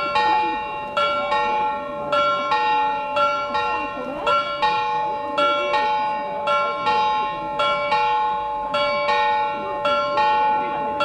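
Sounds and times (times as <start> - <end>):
clock bells chiming: 0.0 - 11.0.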